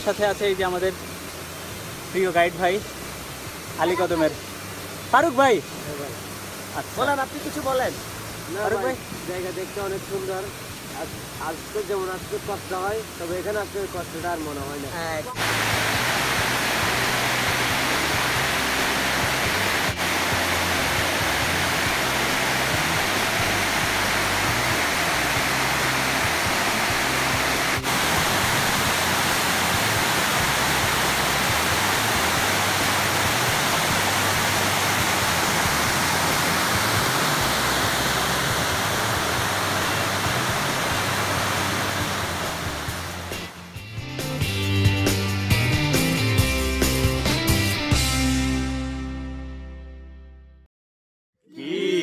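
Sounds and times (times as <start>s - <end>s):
water cascading down rocks: 0.0s - 43.7s.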